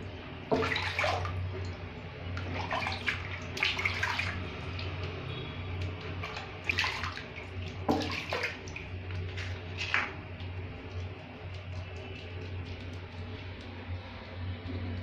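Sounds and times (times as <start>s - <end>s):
steady low hum: 0.0s - 15.0s
water splashing in plastic basin: 0.0s - 15.0s.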